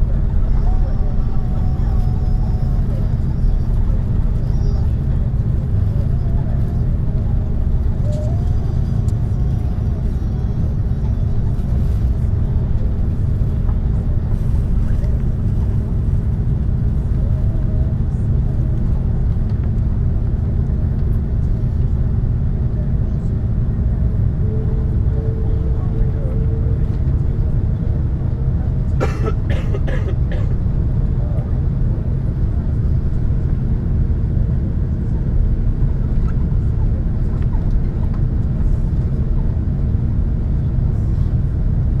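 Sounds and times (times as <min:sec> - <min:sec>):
airplane cabin rumble: 0:00.0 - 0:42.0
jet engines at low thrust: 0:00.0 - 0:42.0.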